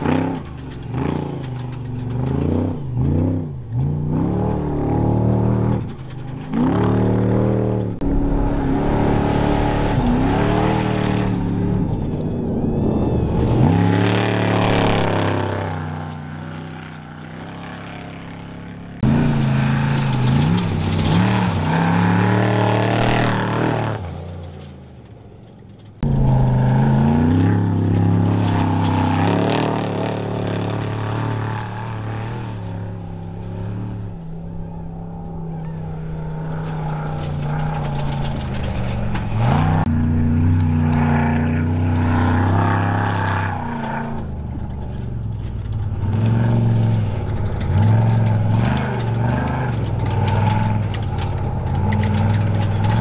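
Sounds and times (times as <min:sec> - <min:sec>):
truck engines revving: 0:00.0 - 0:53.0.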